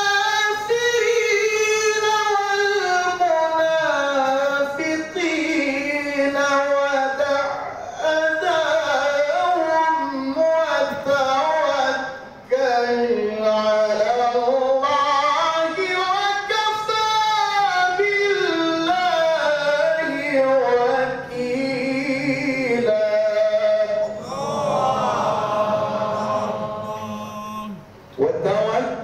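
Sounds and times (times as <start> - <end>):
man chanting into microphone: 0.0 - 29.0.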